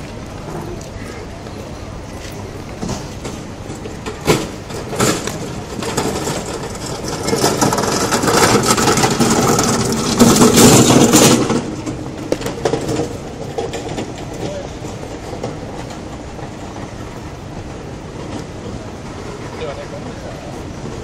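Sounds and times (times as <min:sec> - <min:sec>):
cart wheels rattling over bricks: 0:02.1 - 0:21.0.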